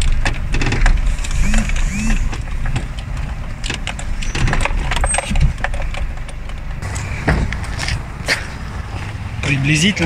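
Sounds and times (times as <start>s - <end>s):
car cabin rumble: 0.0s - 10.0s
car knocking and rattling: 0.0s - 10.0s.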